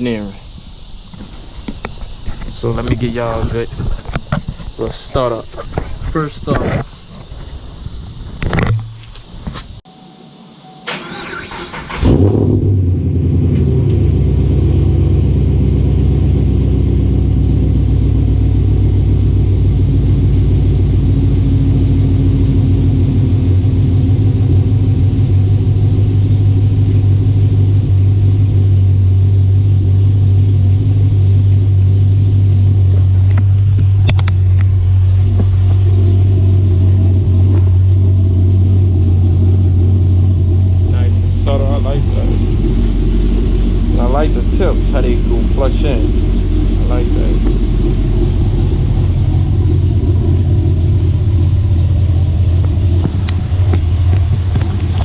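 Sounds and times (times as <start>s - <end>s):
car engine starting and idling: 10.3s - 55.0s.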